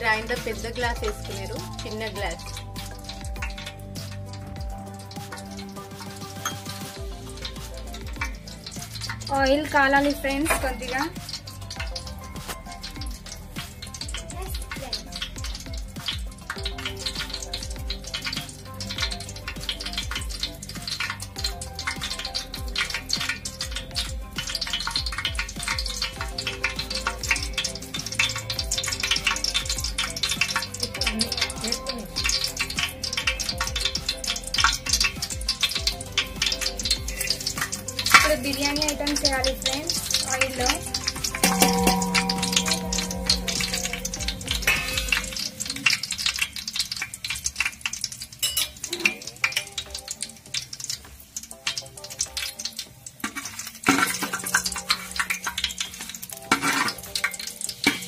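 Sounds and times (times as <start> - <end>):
oil sizzling in a pot: 0.0 - 58.0.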